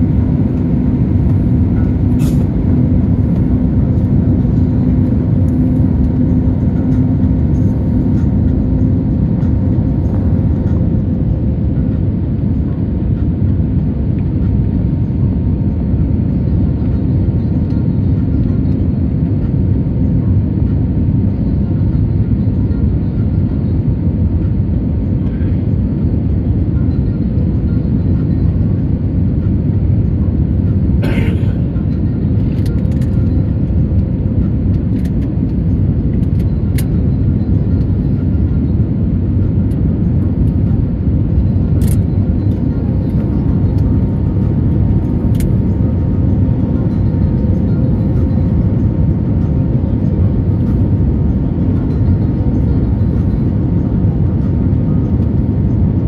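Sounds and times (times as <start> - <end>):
jet engine cabin roar: 0.0 - 56.0.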